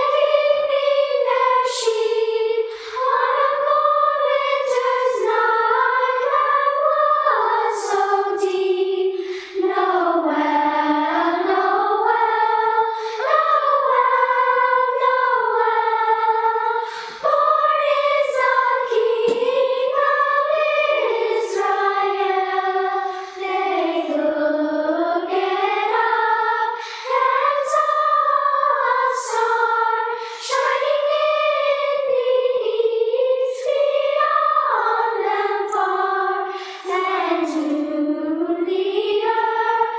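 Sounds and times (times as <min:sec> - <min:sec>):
youth choir singing: 0:00.0 - 0:39.9.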